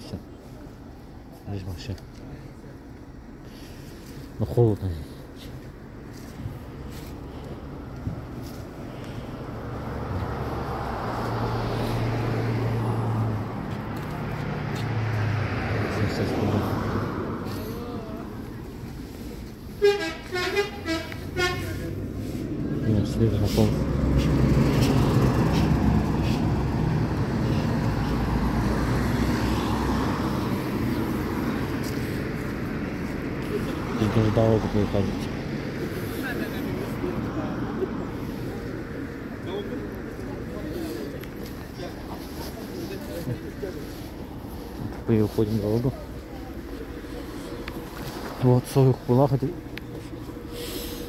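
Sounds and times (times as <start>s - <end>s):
vehicle driving past: 7.2s - 19.3s, 20.6s - 51.0s.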